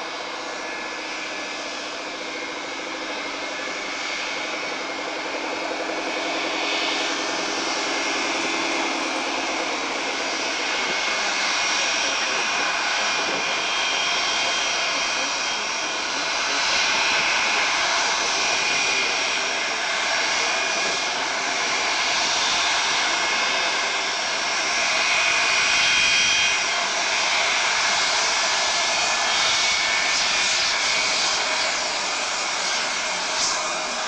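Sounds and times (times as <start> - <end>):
jet engines rumbling and whining: 0.0 - 34.0.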